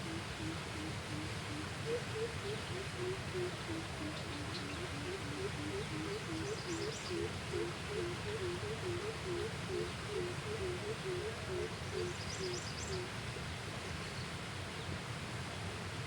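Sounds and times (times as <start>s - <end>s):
animals calling with short low notes: 0.0s - 13.1s.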